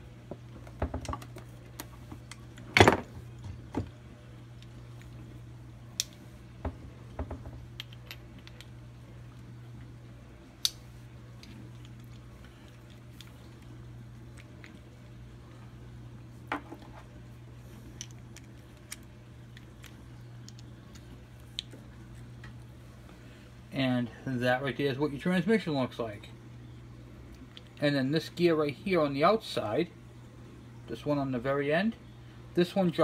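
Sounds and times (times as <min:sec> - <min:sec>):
low hum: 0:00.0 - 0:28.4.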